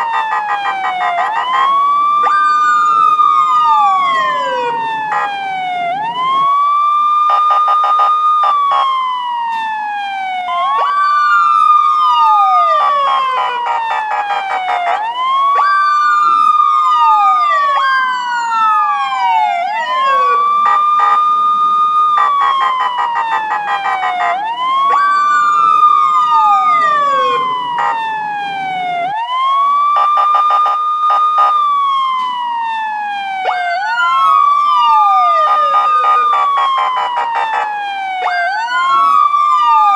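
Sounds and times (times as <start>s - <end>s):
police siren wailing: 0.0s - 39.9s
quick falling siren sweep: 0.0s - 39.9s
rapid pulsing siren: 0.0s - 39.9s.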